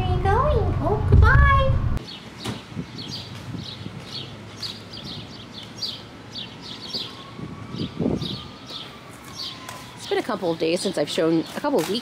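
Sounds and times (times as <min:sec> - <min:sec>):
birds chirping: 0:02.0 - 0:12.0.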